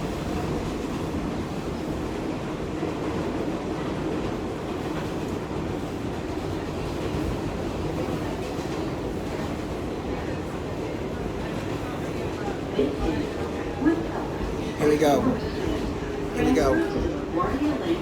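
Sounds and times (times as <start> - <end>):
subway train rumbling on track: 0.0 - 18.0.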